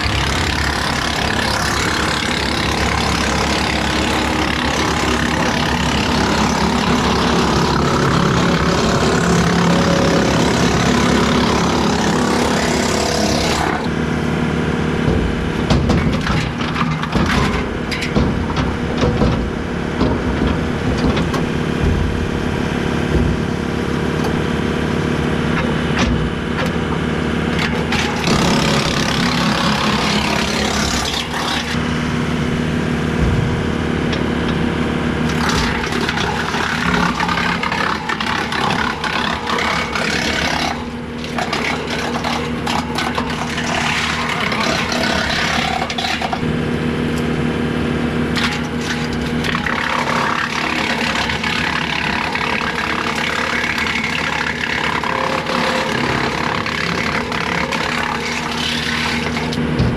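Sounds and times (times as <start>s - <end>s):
wood cracking and snapping: 0.0s - 14.0s, 15.0s - 31.8s, 33.2s - 46.5s, 48.4s - 59.9s
tractor engine running: 0.0s - 59.9s
wood chipper grinding: 0.0s - 59.9s.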